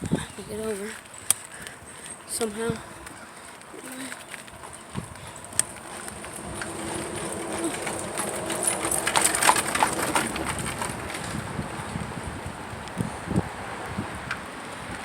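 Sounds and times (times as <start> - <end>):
horse hooves clip-clopping on road: 0.0 - 15.0.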